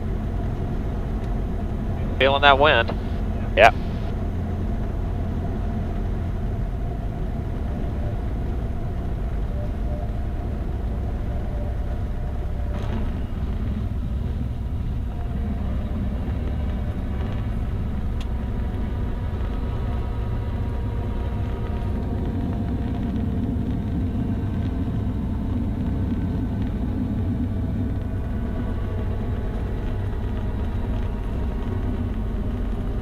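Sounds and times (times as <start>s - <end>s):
airflow rumble: 0.0s - 33.0s
propeller plane engine droning: 0.0s - 33.0s.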